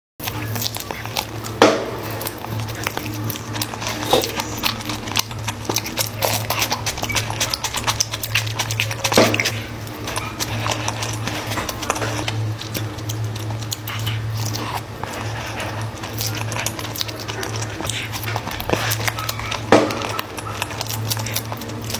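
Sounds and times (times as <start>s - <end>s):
chewing with wet smacking: 0.2s - 21.9s
low hum: 0.2s - 21.9s.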